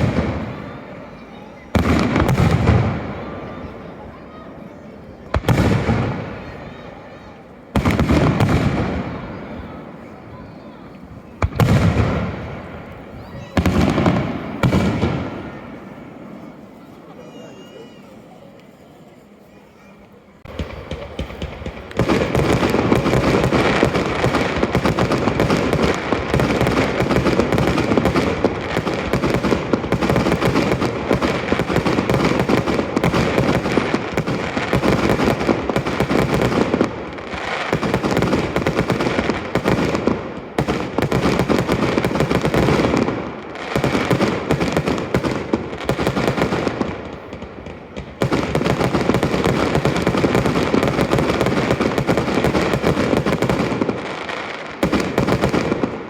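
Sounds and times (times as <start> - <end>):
fireworks bangs and crackles: 0.0 - 18.7, 19.5 - 56.0.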